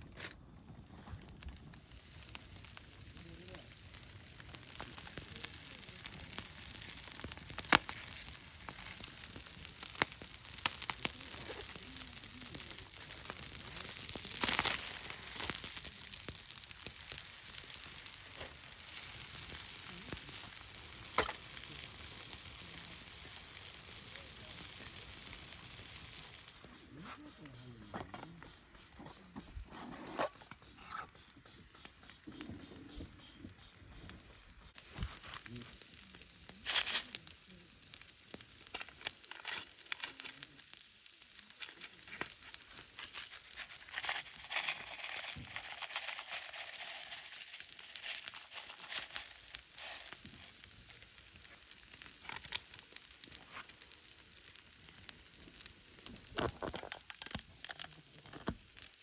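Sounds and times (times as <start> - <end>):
sizzling hiss: 0.0 - 59.0
wood fire crackling: 0.0 - 59.0.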